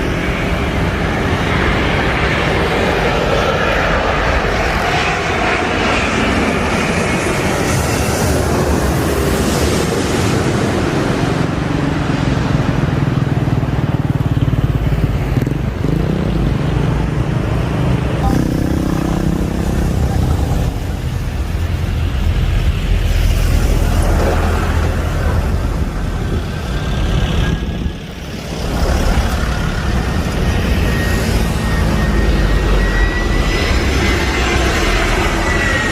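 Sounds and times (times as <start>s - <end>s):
jet airliner engine noise: 0.0s - 35.9s
road traffic: 0.0s - 35.9s.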